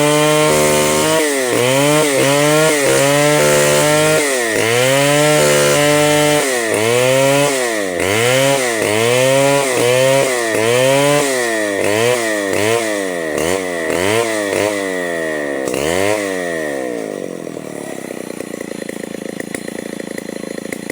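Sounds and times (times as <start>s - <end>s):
chainsaw cutting wood: 0.0s - 20.9s
chainsaw idling: 0.0s - 20.9s.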